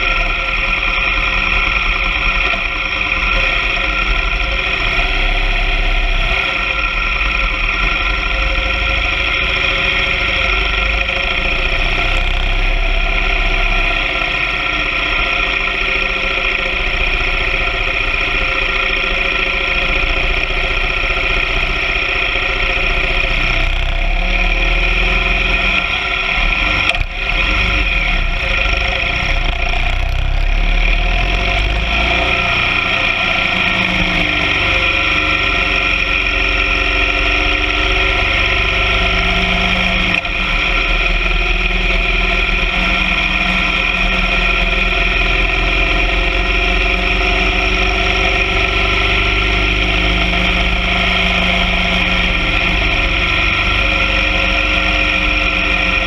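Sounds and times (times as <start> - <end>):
distorted motorcycle engine: 0.0 - 56.0.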